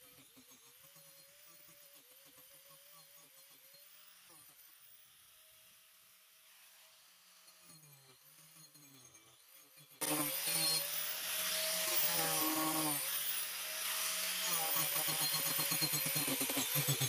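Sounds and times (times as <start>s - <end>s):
angle grinder cutting wood: 0.0s - 17.0s.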